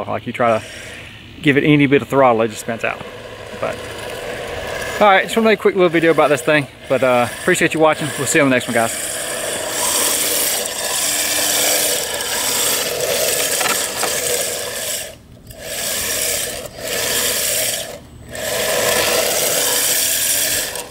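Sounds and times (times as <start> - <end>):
small electric motor: 0.4 - 20.9
toy car tyres scraping asphalt: 0.4 - 20.9.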